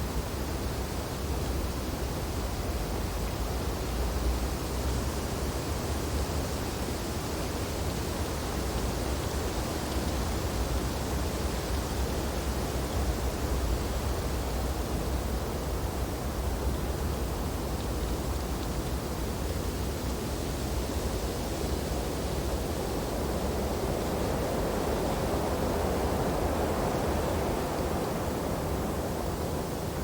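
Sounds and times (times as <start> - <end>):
wind through tree branches: 0.0 - 30.0.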